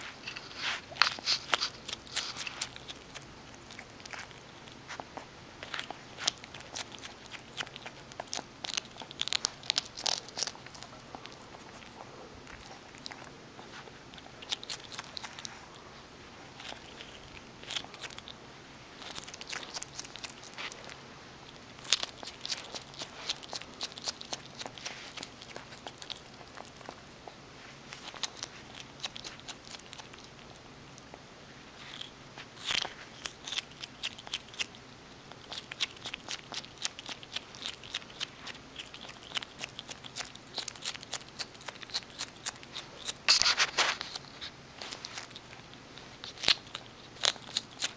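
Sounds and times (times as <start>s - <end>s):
skunk chewing food: 0.0s - 47.9s.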